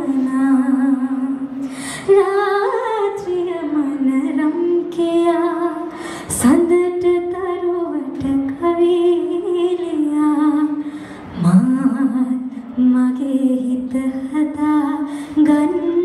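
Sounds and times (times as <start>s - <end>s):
woman singing unaccompanied: 0.0s - 10.8s, 11.4s - 16.0s.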